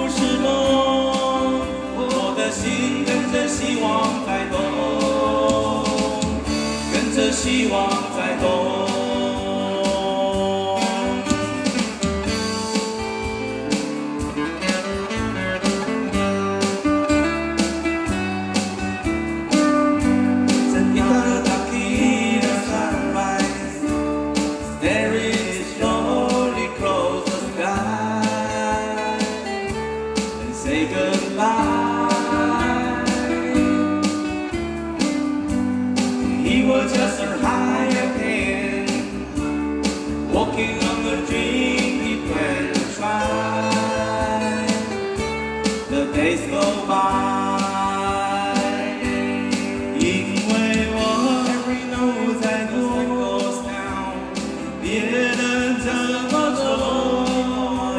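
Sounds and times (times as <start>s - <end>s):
person singing: 0.0s - 13.1s, 15.6s - 35.1s, 36.1s - 57.9s
electric guitars and bass playing: 0.0s - 57.9s.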